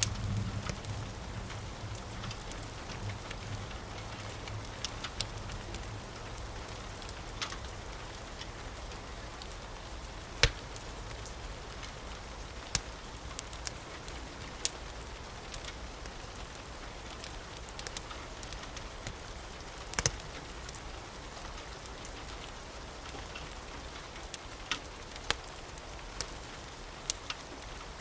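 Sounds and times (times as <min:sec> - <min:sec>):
steady rain: 0:00.0 - 0:28.0
wood fire crackling and popping: 0:00.0 - 0:28.0.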